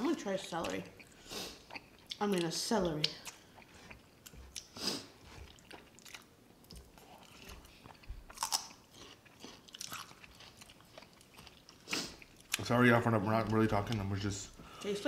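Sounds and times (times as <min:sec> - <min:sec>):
crunching celery chewing: 0:00.4 - 0:14.2.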